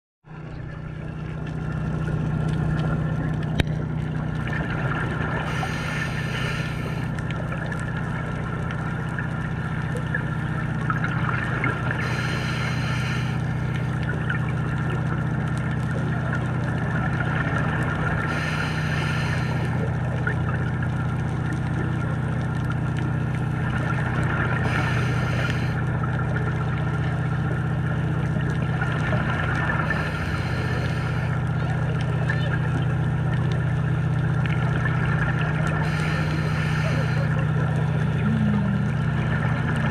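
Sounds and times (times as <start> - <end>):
diver's breath bubbling underwater: 0.3 - 8.4, 9.6 - 15.1, 15.9 - 21.2, 23.1 - 39.9
steady low drone: 0.3 - 39.9.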